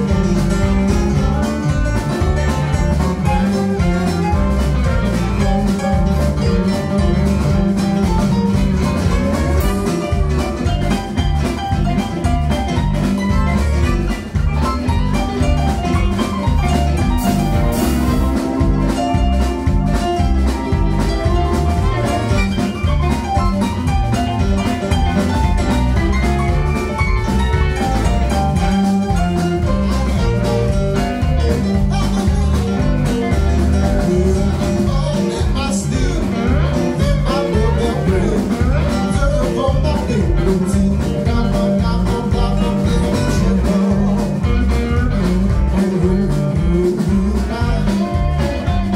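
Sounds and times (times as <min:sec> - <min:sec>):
drum kit: 0:00.0 - 0:48.9
electric guitars: 0:00.0 - 0:48.9
live band playing: 0:00.0 - 0:48.9.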